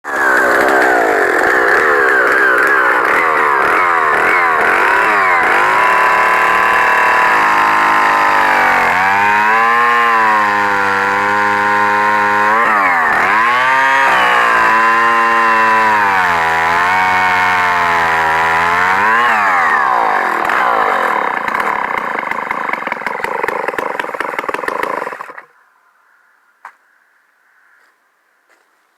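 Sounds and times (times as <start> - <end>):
chainsaw engine revving: 0.0 - 25.5.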